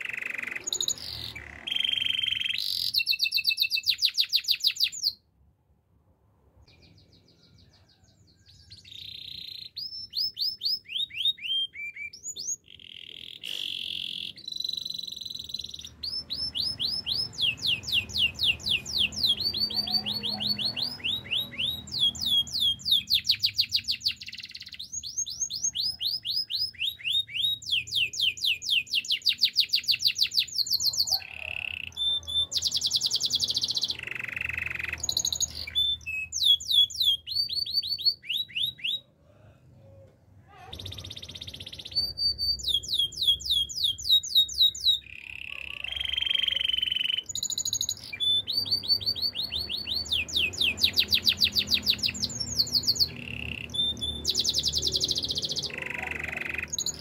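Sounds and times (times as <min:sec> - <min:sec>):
canary singing trills: 0:00.0 - 0:05.2, 0:06.7 - 0:39.1, 0:40.5 - 0:57.0.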